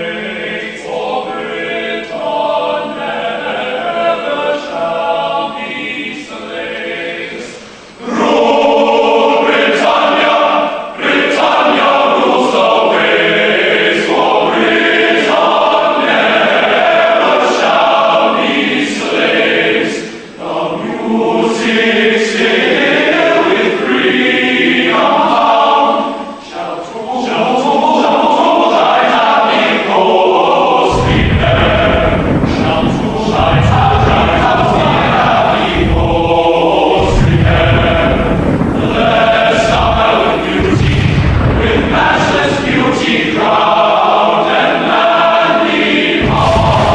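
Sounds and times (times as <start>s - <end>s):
choir singing: 0.0s - 46.9s.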